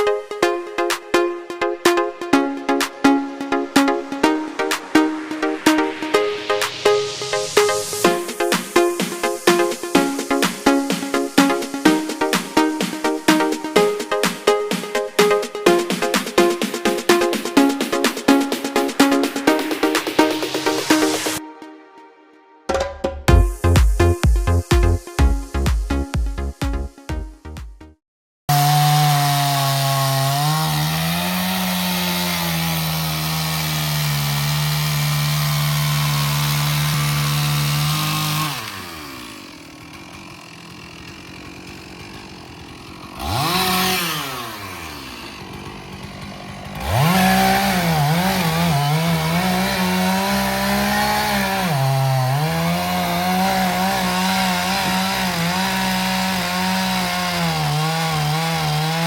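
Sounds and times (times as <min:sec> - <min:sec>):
chainsaw running: 0:00.0 - 0:21.4, 0:28.5 - 0:59.0.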